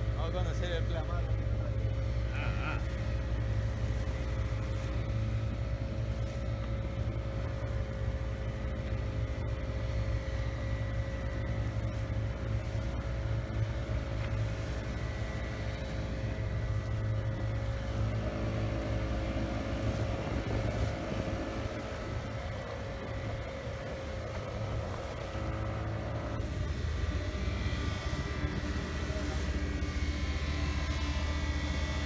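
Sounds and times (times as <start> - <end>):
boat engine droning: 0.0 - 32.0
water and wind noise: 0.0 - 32.0.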